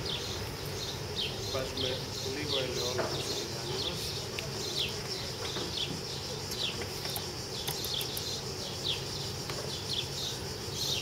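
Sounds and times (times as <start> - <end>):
bird chirping: 0.0 - 11.0
steady high hiss: 0.0 - 11.0.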